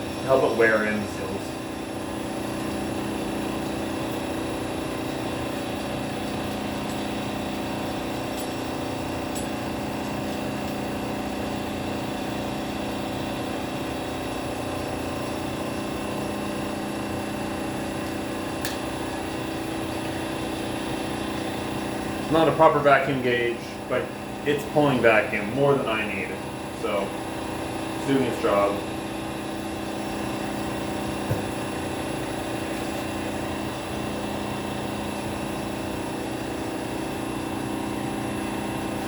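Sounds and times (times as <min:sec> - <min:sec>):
vacuum pump humming: 0:00.0 - 0:39.0.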